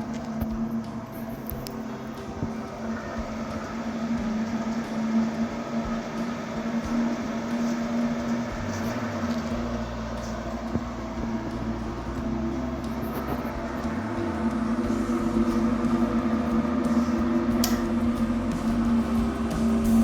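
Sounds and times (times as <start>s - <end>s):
deeper hum: 0.0s - 20.0s
small motor humming: 0.0s - 20.0s.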